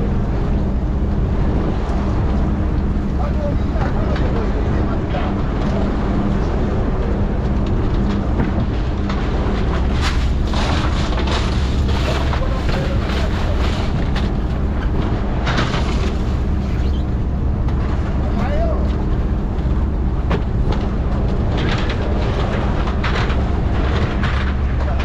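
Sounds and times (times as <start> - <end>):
boat engine humming: 0.0 - 25.0
rushes of water or wind: 0.0 - 25.0.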